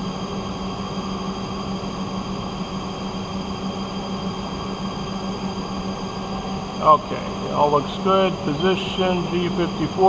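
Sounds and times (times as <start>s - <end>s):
high whining tones: 0.0s - 10.0s
lathe machine hum: 0.0s - 10.0s.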